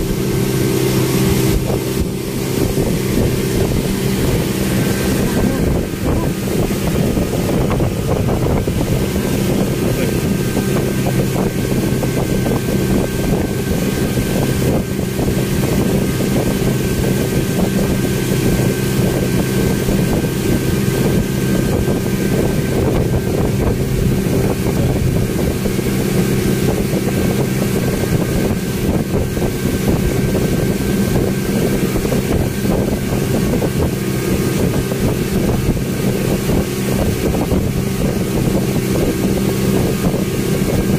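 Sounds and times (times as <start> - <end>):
speedboat engine drone: 0.0 - 40.9
wind rushing: 0.0 - 40.9.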